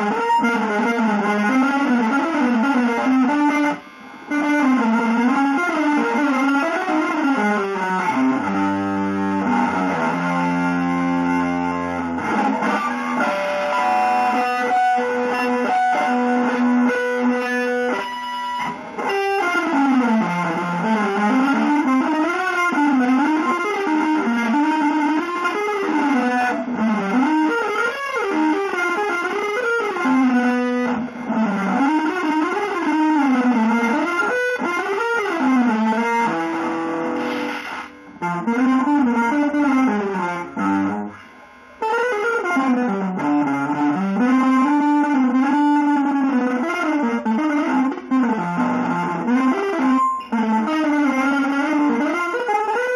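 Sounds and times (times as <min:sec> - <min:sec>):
electric guitar playing: 0:00.0 - 0:52.9.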